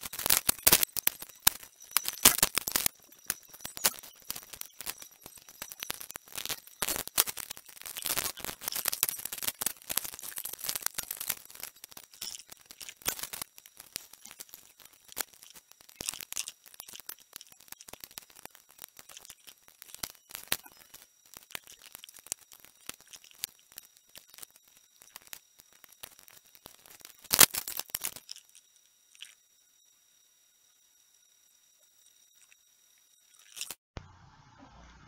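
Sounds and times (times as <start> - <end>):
small clicks and crackles: 0.0 - 33.8
faint high whine: 0.0 - 35.0.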